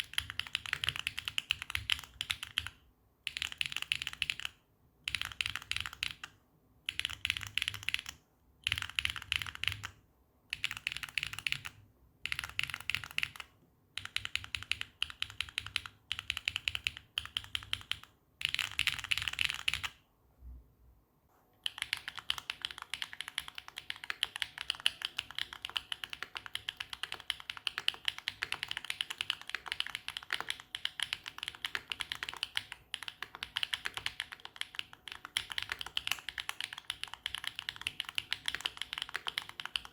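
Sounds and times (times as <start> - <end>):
mechanical keyboard typing: 0.0 - 20.0, 21.6 - 39.9.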